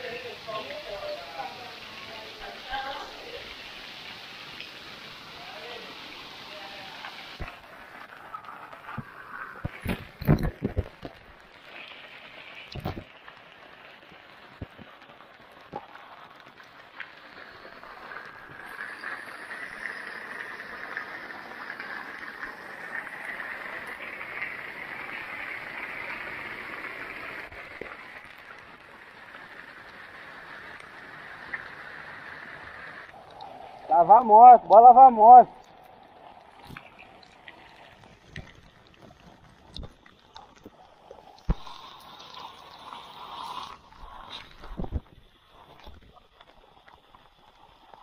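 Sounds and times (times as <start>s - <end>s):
heavy rain falling: 0.0s - 48.0s
spout water splashing on street: 0.0s - 48.0s.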